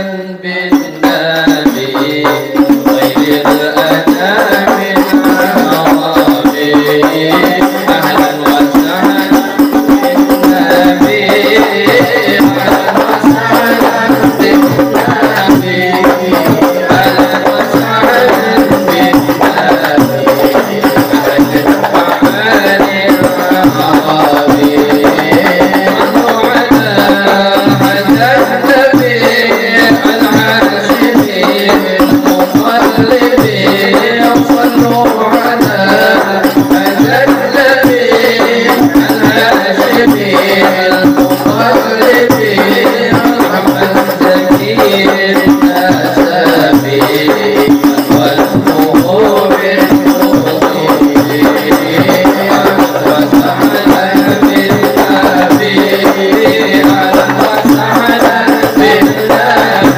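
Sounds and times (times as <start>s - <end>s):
group of voices singing: 0.0s - 59.9s
frame drums playing: 0.6s - 59.9s.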